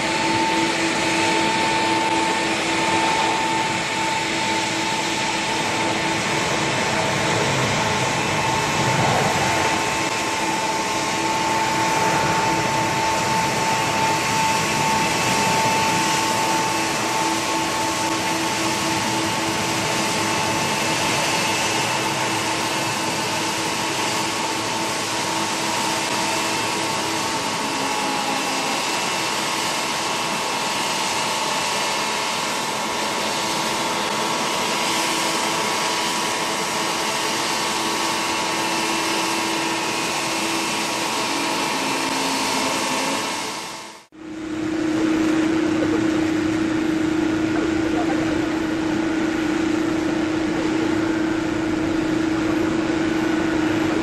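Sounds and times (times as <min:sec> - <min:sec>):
jet engines rushing and whining: 0:00.0 - 0:54.0.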